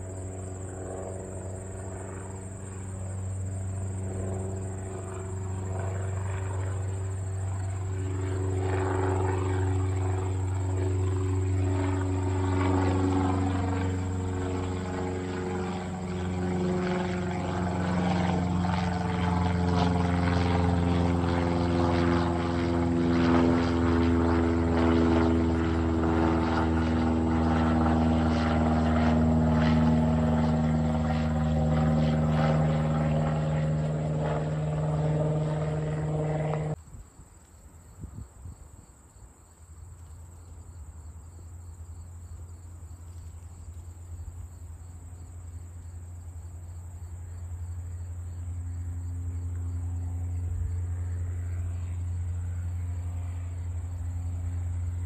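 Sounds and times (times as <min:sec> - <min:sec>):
light plane engine and propeller drone: 0:00.0 - 0:55.0.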